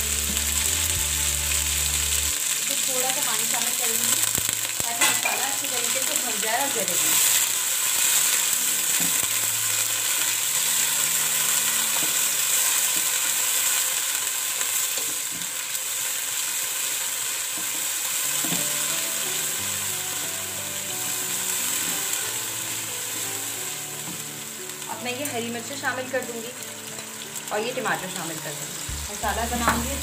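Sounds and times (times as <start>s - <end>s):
oil sizzling in a wok: 0.0s - 30.0s.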